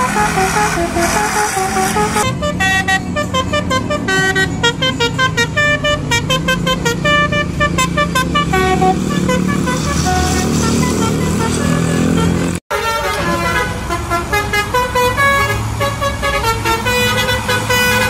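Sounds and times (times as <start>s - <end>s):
bus engine running: 0.0s - 18.0s
musical air horn tune: 0.0s - 18.0s.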